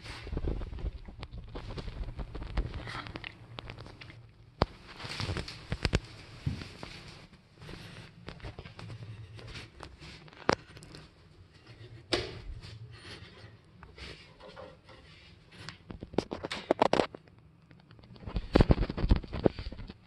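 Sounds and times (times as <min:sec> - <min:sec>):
footsteps: 0:00.0 - 0:16.3.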